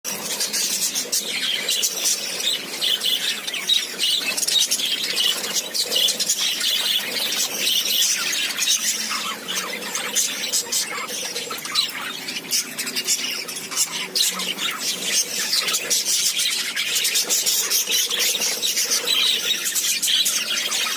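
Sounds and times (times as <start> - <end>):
many birds chirping and squawking: 0.1 - 20.9.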